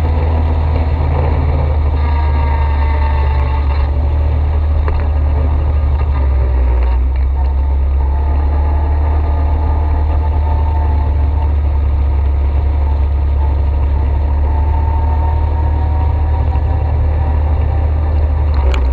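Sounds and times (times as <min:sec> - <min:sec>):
atv engine rumbling: 0:00.0 - 0:18.9.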